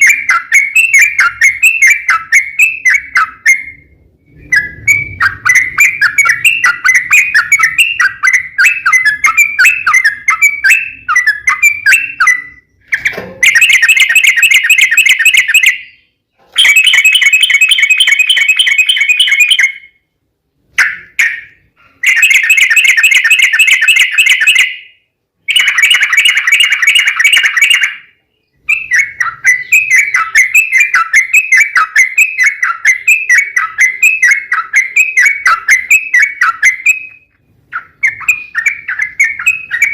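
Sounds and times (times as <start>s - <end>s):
bird chirping: 0.0s - 39.9s
buzzy bird chattering: 4.5s - 16.0s, 16.6s - 19.9s, 20.8s - 24.9s, 25.5s - 39.9s.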